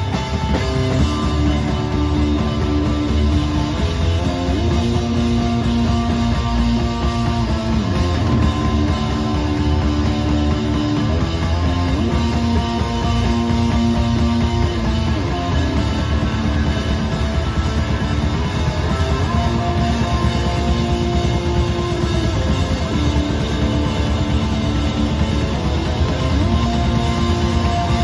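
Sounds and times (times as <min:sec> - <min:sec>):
electric guitar sustained notes: 0:00.0 - 0:28.0
rock band playing live: 0:00.0 - 0:28.0.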